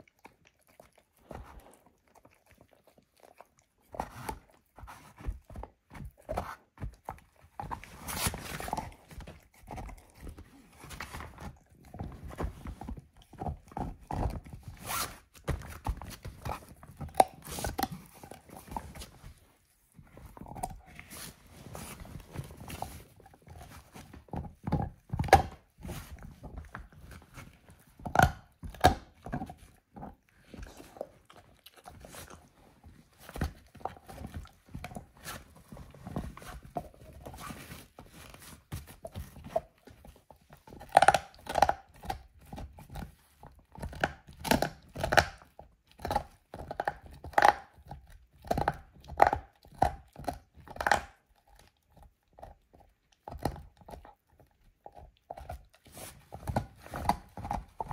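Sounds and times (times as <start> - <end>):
dog gnawing a bone: 0.0 - 57.9.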